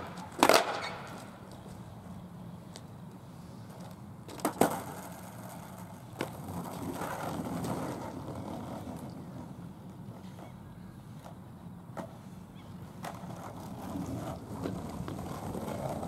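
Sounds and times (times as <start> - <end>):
skateboard clacks: 0.0 - 1.8, 2.8 - 16.0
skateboard wheels rolling on pavement: 0.0 - 16.0.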